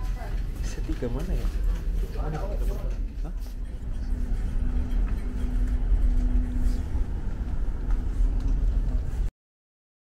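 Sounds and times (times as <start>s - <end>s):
ship machinery rumble: 0.0s - 9.3s.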